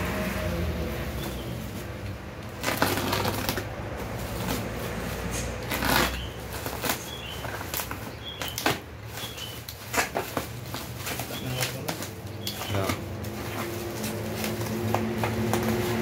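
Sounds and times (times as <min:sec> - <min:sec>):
plastic wrapping crinkling: 0:01.2 - 0:16.0.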